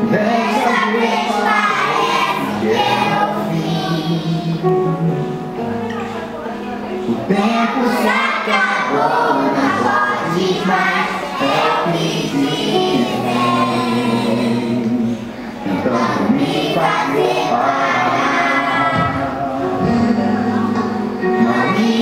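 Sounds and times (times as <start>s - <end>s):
young children singing along: 0.0s - 5.2s, 7.3s - 20.0s, 20.6s - 22.0s
worship song with sung vocals: 0.0s - 5.6s, 7.0s - 22.0s.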